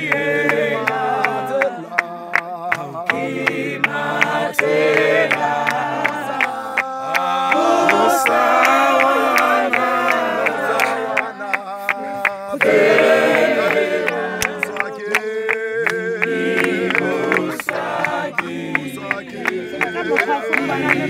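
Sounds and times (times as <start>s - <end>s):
choir singing in harmony: 0.0s - 21.0s.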